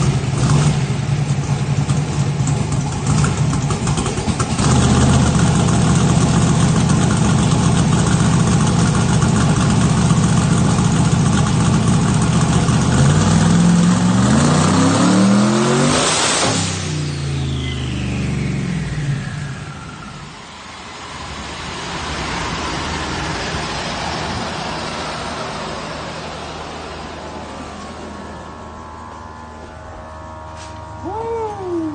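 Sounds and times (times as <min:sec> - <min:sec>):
turbocharged engine running: 0:00.0 - 0:31.9.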